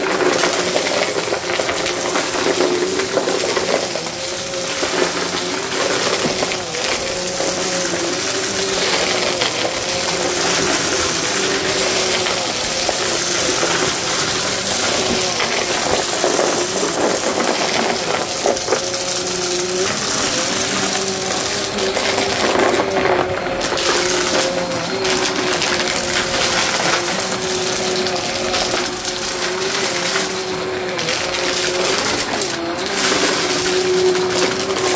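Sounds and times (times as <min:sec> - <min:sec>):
debris clicking into vacuum: 0:00.0 - 0:34.9
vacuum cleaner motor whine: 0:00.0 - 0:34.9.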